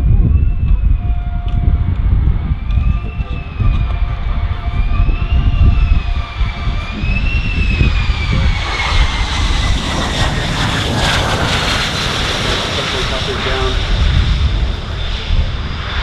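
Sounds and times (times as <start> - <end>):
deep jet rumble: 0.0 - 16.0
jet engine whine: 0.0 - 16.0
rushing noise: 0.8 - 16.0.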